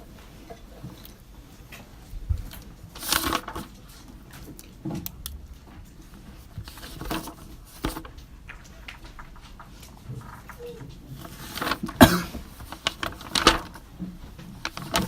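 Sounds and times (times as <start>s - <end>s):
paper rustles: 0.2s - 15.0s.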